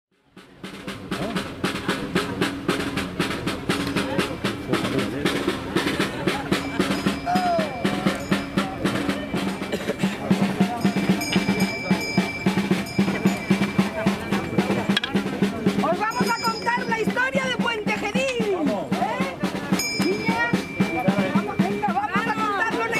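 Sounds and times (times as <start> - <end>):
side drum beaten steadily: 0.2 - 22.9
people talking: 0.4 - 22.9.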